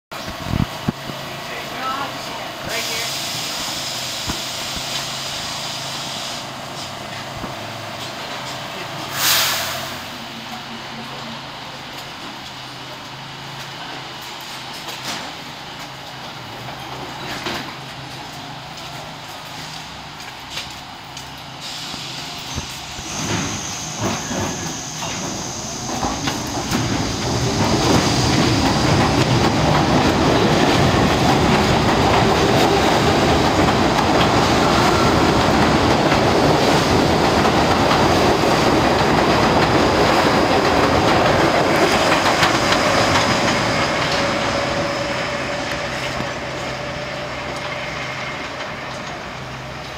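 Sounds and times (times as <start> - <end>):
subway train wheels clattering: 0.1 - 49.9.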